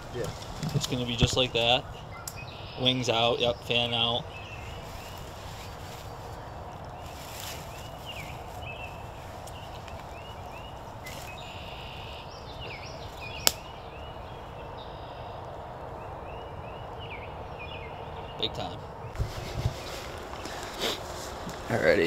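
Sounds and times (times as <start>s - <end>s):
songbirds singing: 0.0s - 22.0s.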